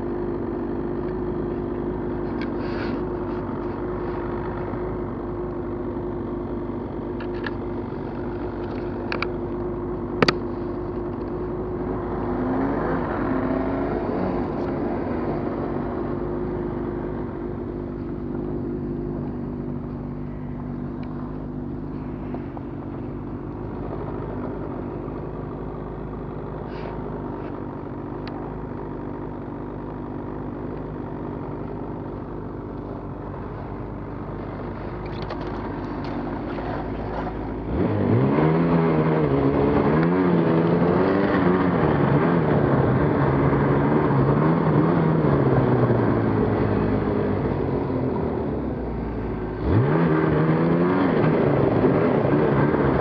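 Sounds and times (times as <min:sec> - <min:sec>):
snowmobile engine idling and revving: 0:00.0 - 0:53.0.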